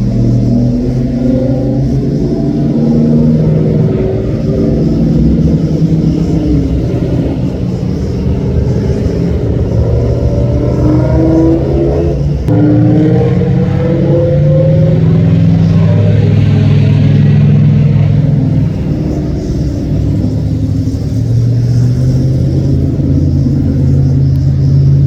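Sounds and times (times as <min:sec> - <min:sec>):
car engines passing and revving: 0:00.0 - 0:25.0.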